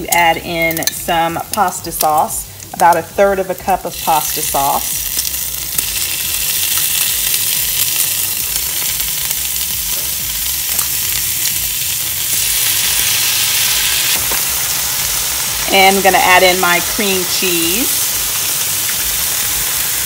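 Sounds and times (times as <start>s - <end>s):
sausage sizzling in a skillet: 0.0s - 20.0s.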